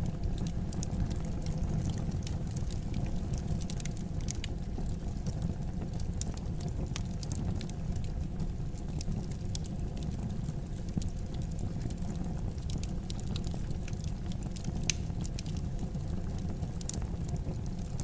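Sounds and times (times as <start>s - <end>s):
fire crackling in fireplace: 0.0s - 18.0s.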